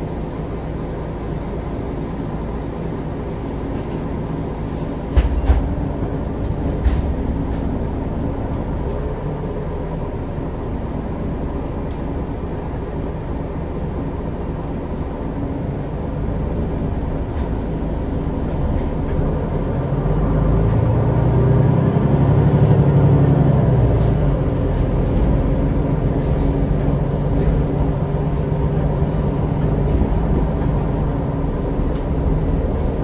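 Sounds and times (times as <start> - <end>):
bus engine idling: 0.0 - 33.0.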